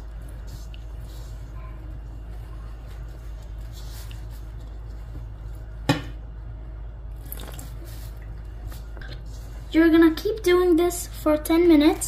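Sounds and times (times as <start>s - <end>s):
hands mixing bread dough: 0.0s - 12.0s
steady low hum: 0.0s - 12.0s.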